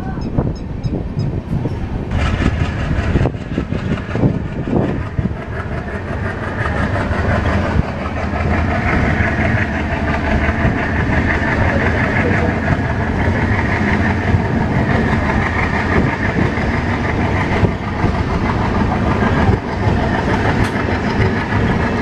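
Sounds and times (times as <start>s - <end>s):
train rumble: 0.0s - 22.0s
wheels clattering over rail joints: 1.5s - 22.0s.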